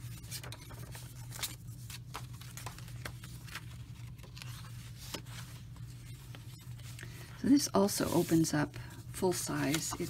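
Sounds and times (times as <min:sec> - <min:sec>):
paper rustling and crinkling: 0:00.0 - 0:10.0
steady low hum: 0:00.0 - 0:10.0.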